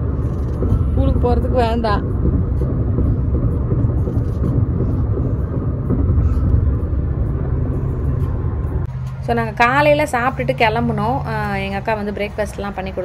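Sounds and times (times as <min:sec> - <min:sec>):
low road rumble in car cabin: 0:00.0 - 0:12.0.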